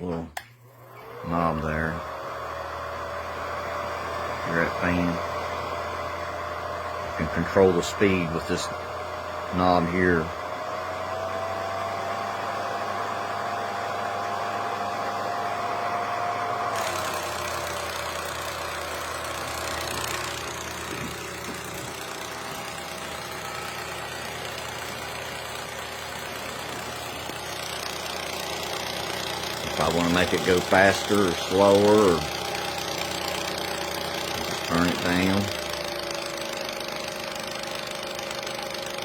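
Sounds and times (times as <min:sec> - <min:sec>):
film projector motor whine: 0:00.0 - 0:39.0.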